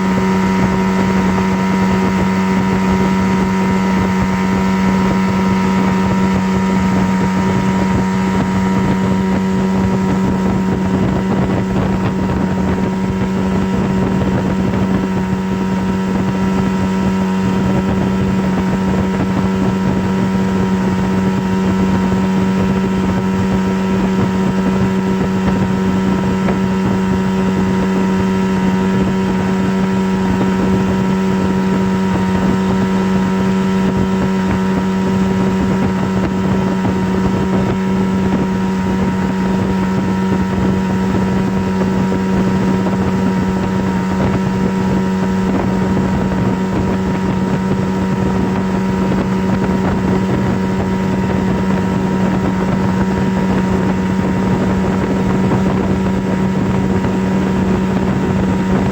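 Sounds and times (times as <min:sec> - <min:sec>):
deep steady hum: 0:00.0 - 0:58.9.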